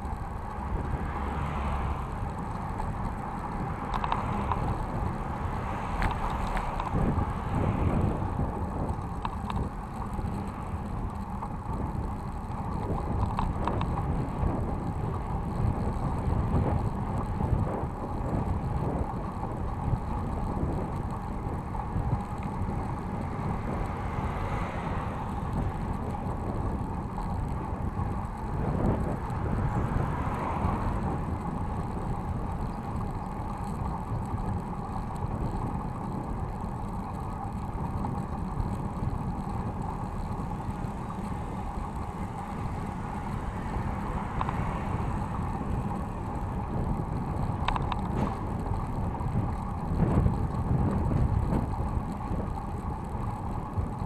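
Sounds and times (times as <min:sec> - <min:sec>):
bike rattling: 0:00.0 - 0:54.0
bike tyres rumbling on road: 0:00.0 - 0:54.0
wind on microphone: 0:00.0 - 0:54.0.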